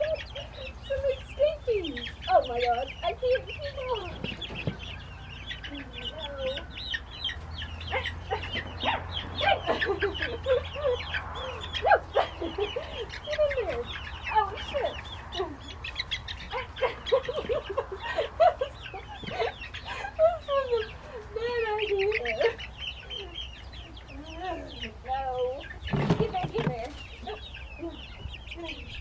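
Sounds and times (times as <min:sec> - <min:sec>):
chickens clucking and squawking: 0:00.0 - 0:29.0
chicks peeping: 0:00.0 - 0:29.0.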